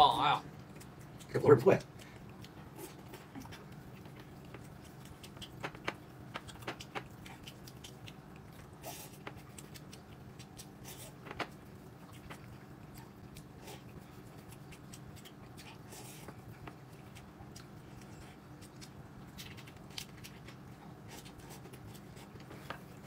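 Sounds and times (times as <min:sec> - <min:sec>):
faint low hum: 0:00.0 - 0:23.0
chewing: 0:00.5 - 0:23.0.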